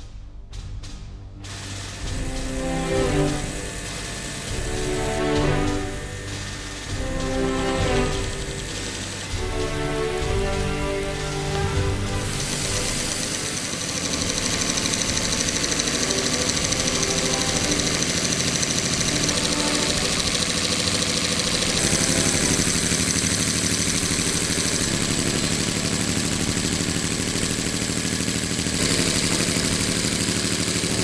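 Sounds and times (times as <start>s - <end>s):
model engine running: 1.4s - 31.0s
valve gear clattering: 1.4s - 31.0s.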